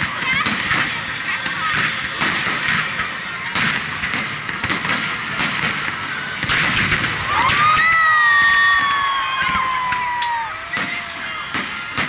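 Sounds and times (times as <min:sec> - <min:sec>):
firework shells booming: 0:00.0 - 0:12.0.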